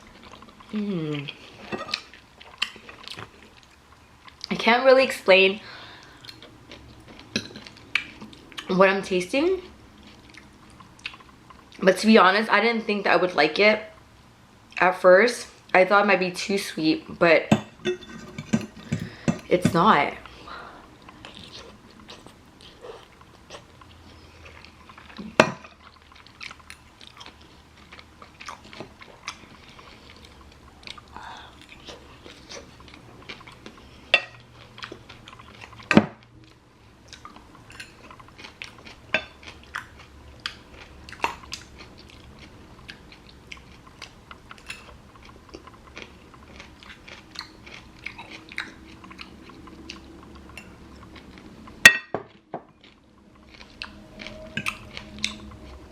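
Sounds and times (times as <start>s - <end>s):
chewing and crunching: 0.0s - 4.6s, 5.7s - 8.8s, 9.4s - 11.9s, 20.2s - 55.9s.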